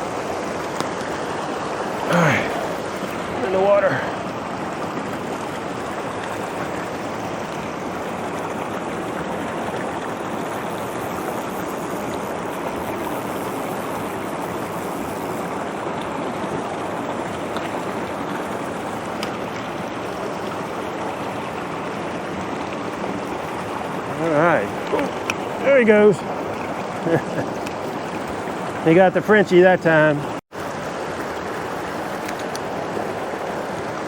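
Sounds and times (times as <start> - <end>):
stream rushing over rocks: 0.0 - 34.0.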